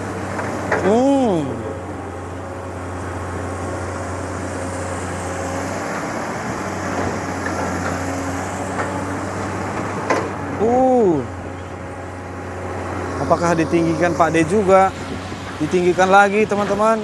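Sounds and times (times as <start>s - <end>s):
excavator diesel engine hum: 0.0s - 17.0s.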